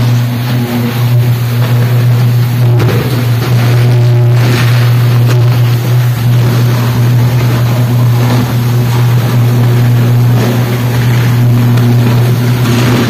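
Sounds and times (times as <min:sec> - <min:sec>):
electrical arc buzzing hum: 0:00.0 - 0:13.0.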